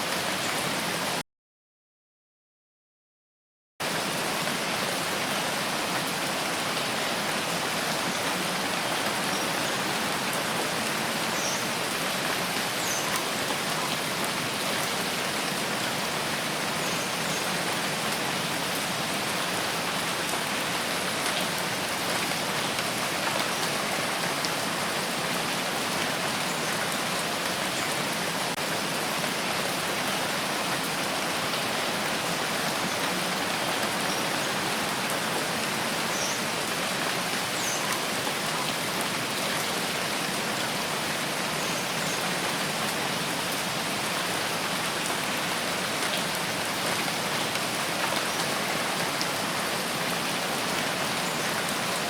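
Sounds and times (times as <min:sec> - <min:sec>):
steady rain falling: 0:00.0 - 0:01.2, 0:03.8 - 0:52.0.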